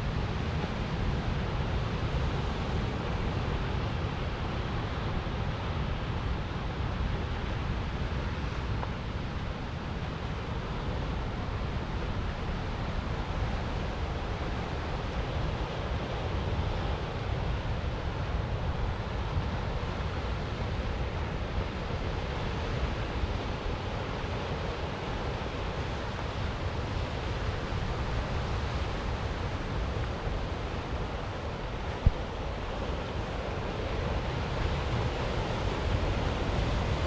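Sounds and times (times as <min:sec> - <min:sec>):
wind rumble on microphone: 0:00.0 - 0:37.0.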